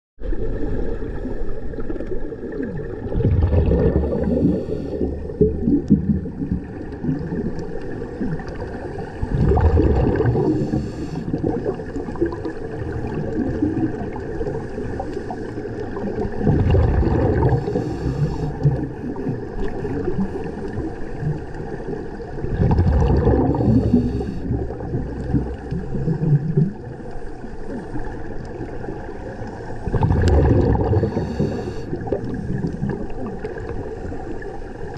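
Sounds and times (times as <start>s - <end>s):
diver exhaling bubbles: 0.2s - 21.4s, 22.4s - 26.9s, 29.8s - 34.1s
underwater rumble and hiss: 0.2s - 34.9s.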